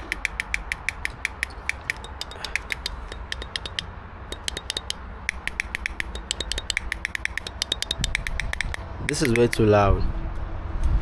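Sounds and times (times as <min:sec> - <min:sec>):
rapid regular clicking: 0:00.0 - 0:09.7.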